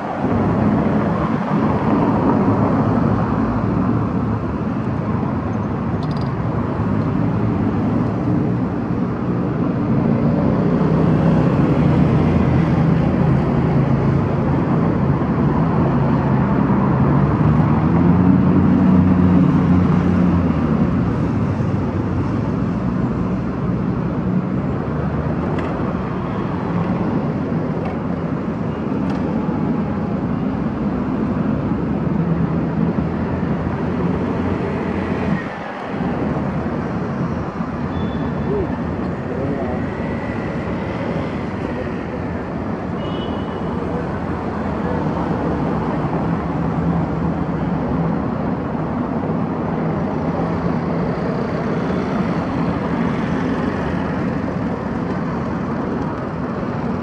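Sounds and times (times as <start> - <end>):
cars driving past: 0.0 - 57.0.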